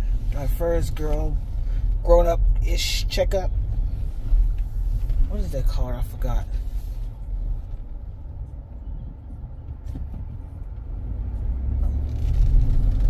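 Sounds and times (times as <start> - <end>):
car road noise inside cabin: 0.0 - 13.0.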